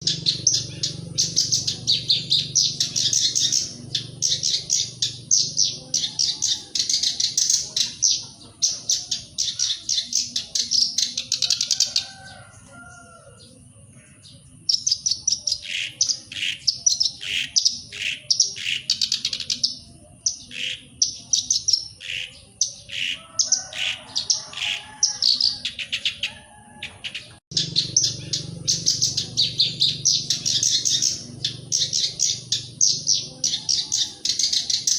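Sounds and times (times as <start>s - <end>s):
warbler chattering song: 0.0s - 34.9s.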